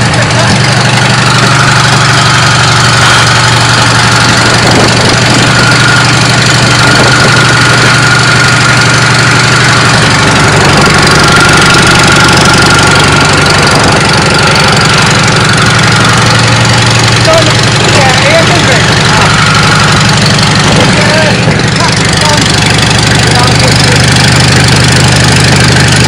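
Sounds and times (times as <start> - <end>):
car engine running: 0.0 - 26.0
faint engine whine: 0.0 - 26.0.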